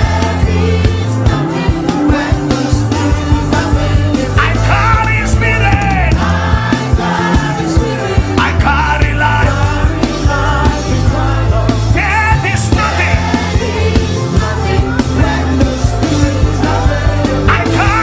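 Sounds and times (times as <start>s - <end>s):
band playing steady beat: 0.0s - 18.0s.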